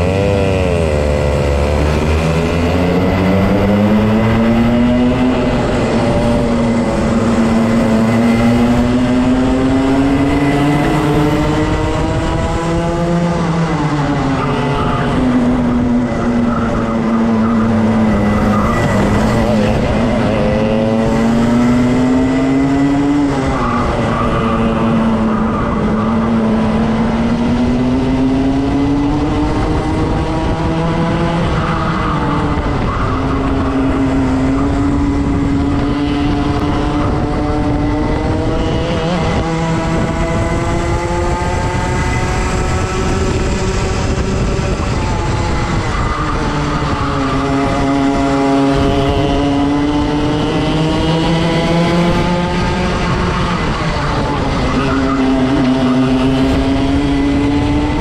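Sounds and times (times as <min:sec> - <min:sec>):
two-stroke kart engine racing: 0:00.0 - 0:58.0.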